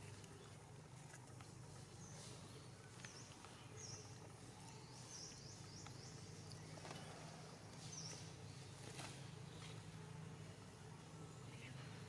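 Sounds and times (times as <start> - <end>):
low steady hum: 0.0 - 12.0
small birds chirping: 0.0 - 12.0.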